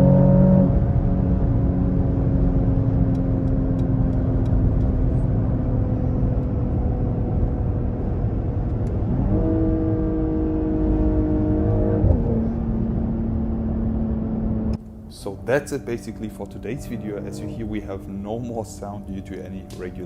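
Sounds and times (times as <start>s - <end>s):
car engine in cabin: 0.0s - 20.0s
road noise: 0.0s - 20.0s.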